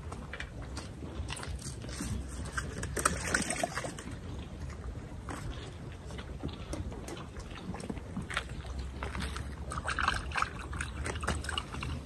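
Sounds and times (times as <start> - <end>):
steady low rumble: 0.0 - 12.0
water sloshing: 1.2 - 12.0.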